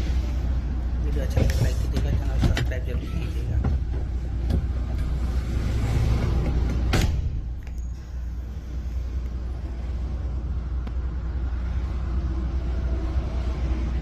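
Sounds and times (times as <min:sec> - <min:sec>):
vehicle rumble and road noise: 0:00.0 - 0:14.0.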